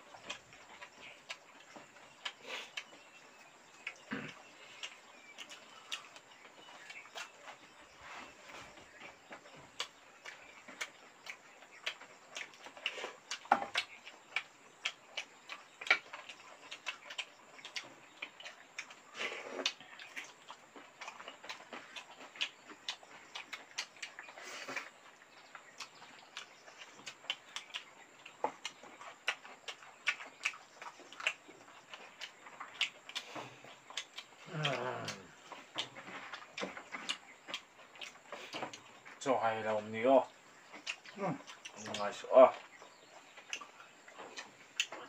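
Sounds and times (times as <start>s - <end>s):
chewing and lip smacking: 0.0s - 39.2s, 40.2s - 45.0s.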